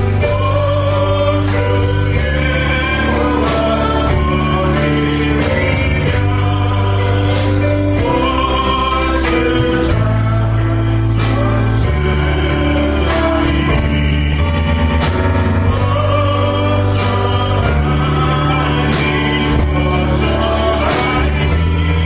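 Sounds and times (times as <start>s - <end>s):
long held bass notes: 0.0s - 22.0s
steady beat: 0.0s - 22.0s
worship song singing: 0.0s - 22.0s.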